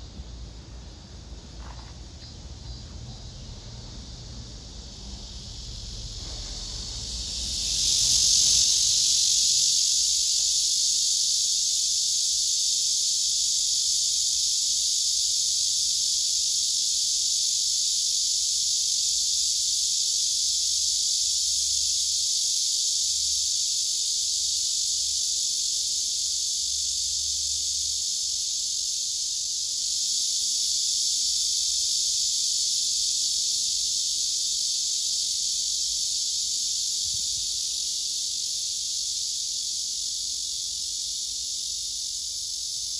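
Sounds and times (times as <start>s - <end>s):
cicadas buzzing: 0.0s - 42.9s.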